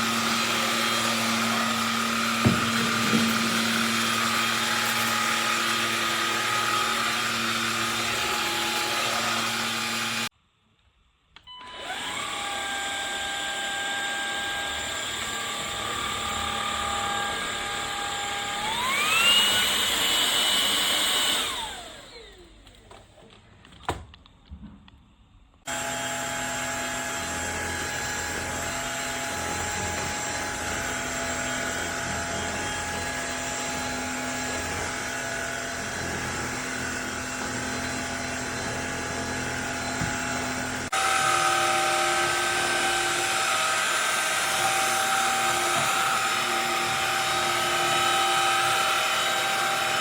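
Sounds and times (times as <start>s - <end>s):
vacuum cleaner motor whine: 0.0s - 10.3s, 11.4s - 23.0s, 25.6s - 50.0s.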